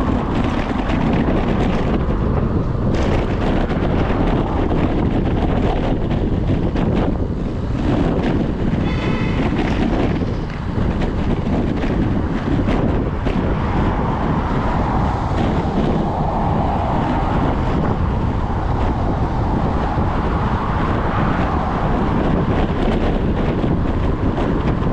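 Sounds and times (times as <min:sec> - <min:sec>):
car passing: 0:00.0 - 0:24.2
road noise: 0:00.0 - 0:24.9
wind buffeting microphone: 0:00.0 - 0:24.9.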